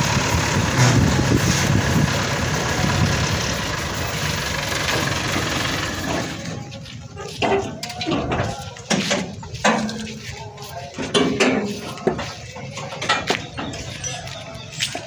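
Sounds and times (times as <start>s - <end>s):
people's voices: 0.0s - 15.0s.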